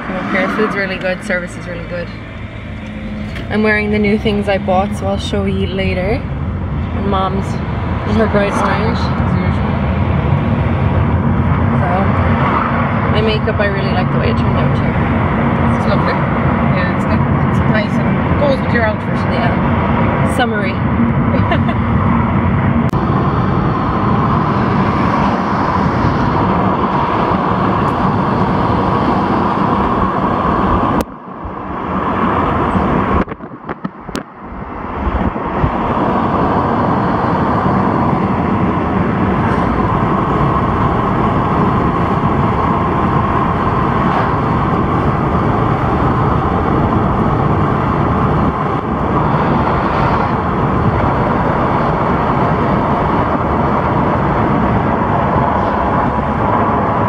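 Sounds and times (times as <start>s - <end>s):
car cabin road noise: 0.0s - 57.0s.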